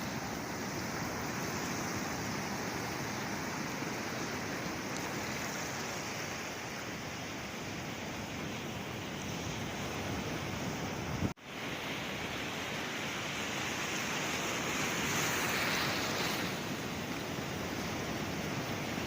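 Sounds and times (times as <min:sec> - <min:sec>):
sea waves washing on shore: 0:00.0 - 0:19.0.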